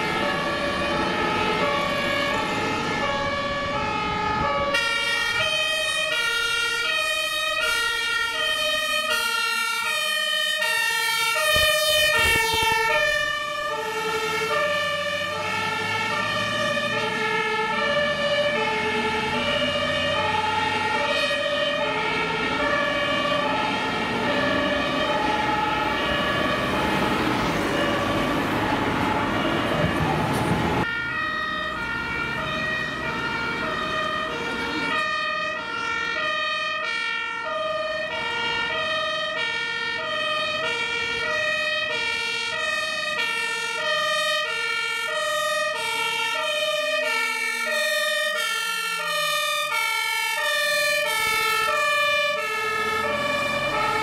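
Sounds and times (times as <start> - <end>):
fire engine two-tone sirens: 0.0 - 54.0
truck engine and tyre noise: 0.0 - 54.0.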